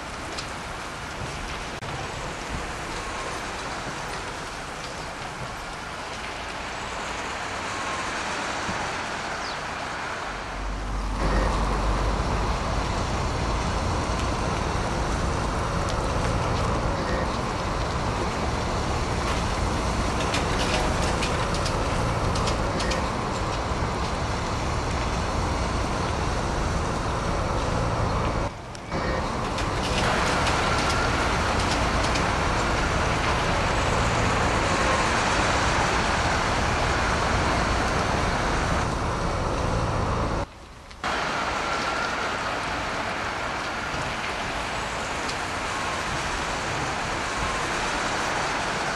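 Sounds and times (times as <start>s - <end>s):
road vehicle running noise: 0.0s - 48.9s.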